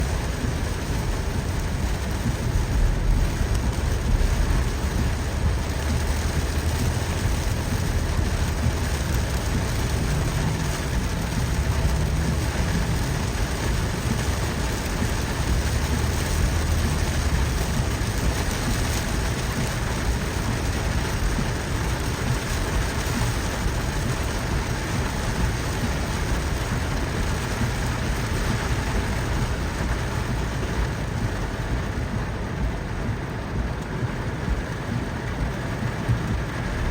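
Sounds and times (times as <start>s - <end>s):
low rumble: 0.0s - 36.9s
steady rain falling: 0.0s - 36.9s.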